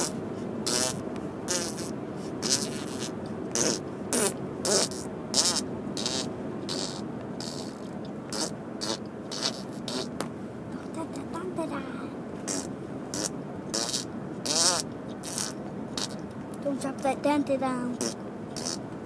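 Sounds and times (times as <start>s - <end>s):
boy making mouth noises: 0.0s - 10.2s, 10.8s - 18.8s.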